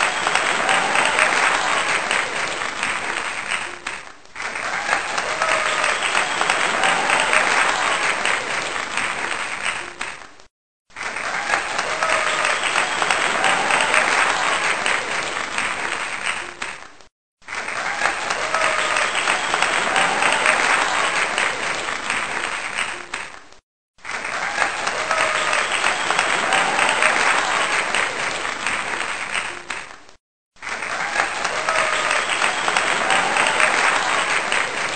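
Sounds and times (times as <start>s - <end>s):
crowd applauding: 0.0s - 34.9s.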